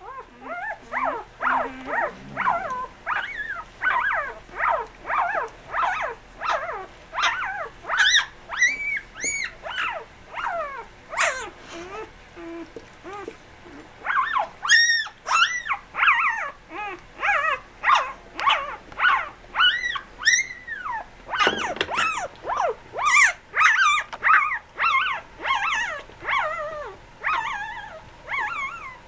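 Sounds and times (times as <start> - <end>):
puppies squealing and whining: 0.0 - 29.0.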